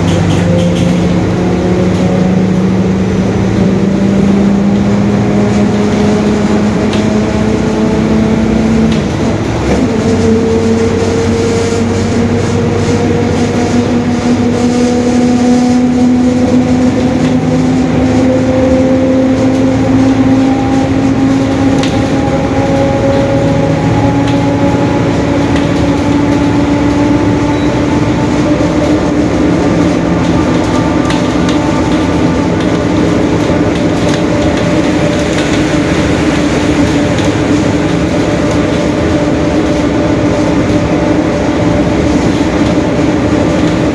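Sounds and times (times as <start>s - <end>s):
bus differential whining: 0.0s - 43.9s
bus engine and road noise: 0.0s - 43.9s.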